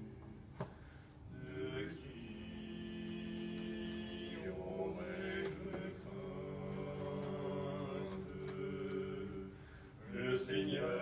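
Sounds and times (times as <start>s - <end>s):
slow church chant: 0.0s - 11.0s.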